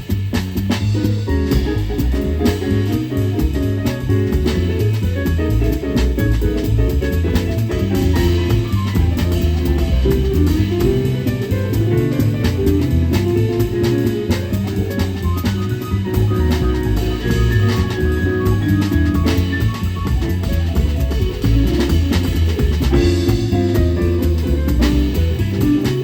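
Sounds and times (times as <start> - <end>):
busy mid-range notes: 0.0 - 26.0
drum kit and cymbals: 0.0 - 26.0
plucked bass line: 0.0 - 26.0.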